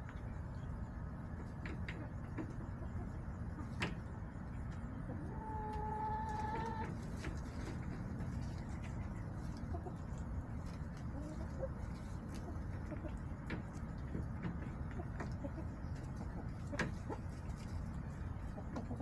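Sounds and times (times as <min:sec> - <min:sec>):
hens clucking: 0:00.0 - 0:19.0
steady low rumble: 0:00.0 - 0:19.0.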